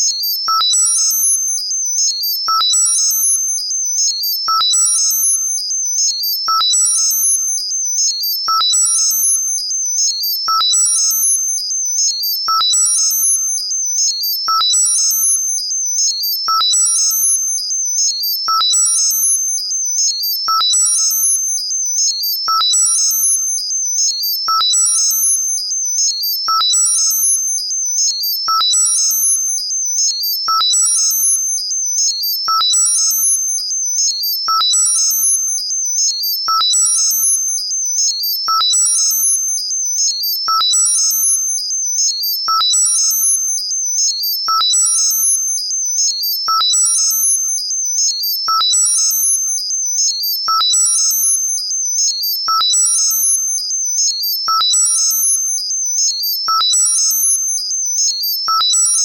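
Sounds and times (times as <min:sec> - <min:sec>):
very high-pitched steady tone: 0:00.0 - 0:59.0.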